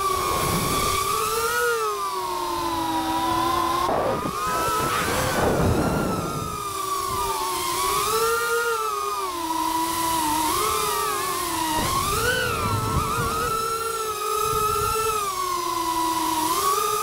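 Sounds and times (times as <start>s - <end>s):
propeller wash rushing: 0.0s - 15.4s
drone motors whining: 0.0s - 17.0s.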